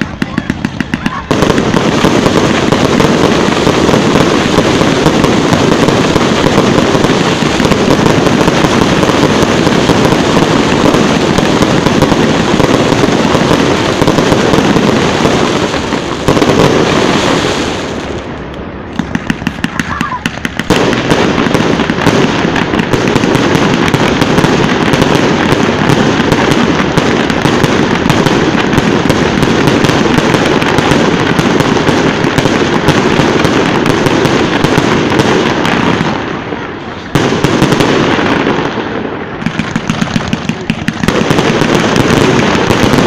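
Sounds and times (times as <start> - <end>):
fireworks crackling: 0.0 - 43.0
fireworks pops and bangs: 0.0 - 43.0.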